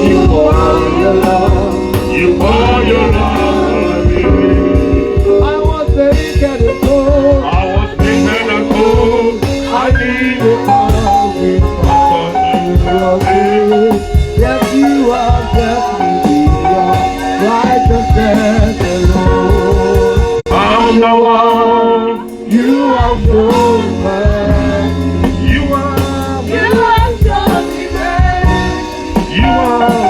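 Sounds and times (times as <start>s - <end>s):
gospel band playing: 0.0s - 30.0s
person singing: 0.0s - 30.0s.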